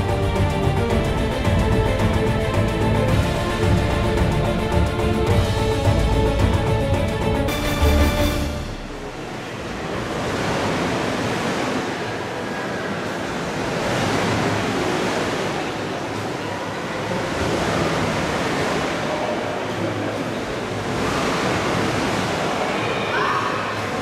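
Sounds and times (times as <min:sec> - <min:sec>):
waves surging and breaking: 0:00.0 - 0:24.0.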